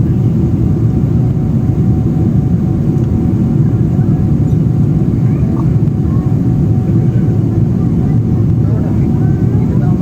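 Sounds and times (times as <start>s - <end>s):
low roar of engines and airflow: 0.0s - 10.0s.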